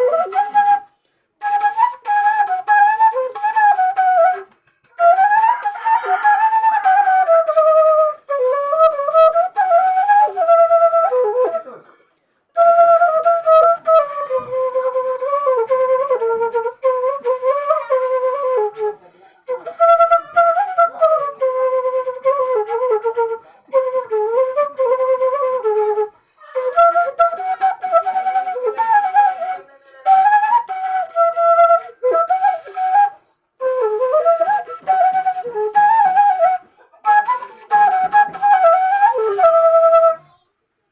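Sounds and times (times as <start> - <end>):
bamboo flute melody: 0.0 - 11.9, 12.5 - 40.4.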